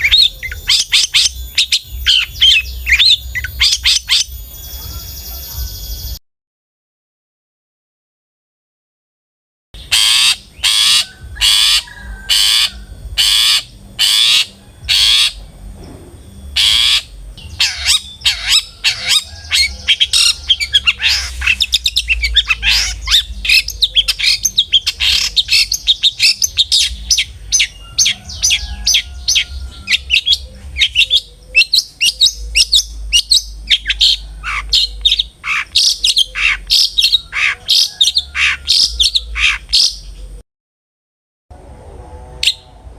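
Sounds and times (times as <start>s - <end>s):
shrike singing: 0.0s - 6.2s, 9.8s - 40.4s.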